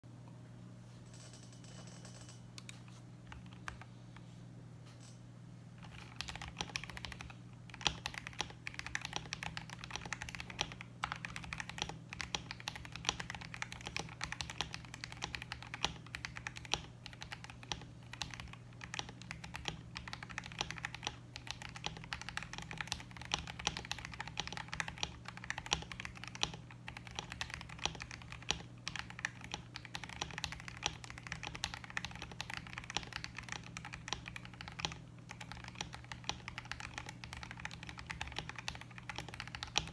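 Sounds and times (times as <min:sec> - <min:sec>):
steady low hum: 0:00.0 - 0:39.9
mechanical keyboard typing: 0:01.1 - 0:03.9, 0:05.8 - 0:39.9.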